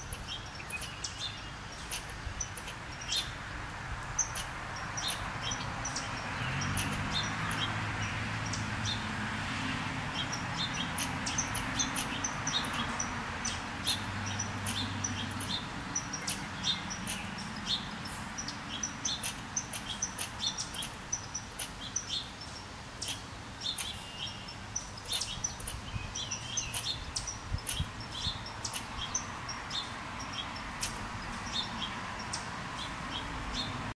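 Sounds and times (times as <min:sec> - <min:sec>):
squirrel alarm chips: 0:00.0 - 0:03.4, 0:04.0 - 0:09.0, 0:10.0 - 0:32.4.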